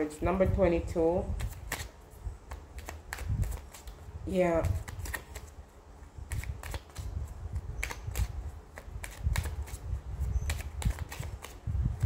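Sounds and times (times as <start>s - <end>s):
cards being shuffled: 1.3s - 5.6s, 6.2s - 12.0s.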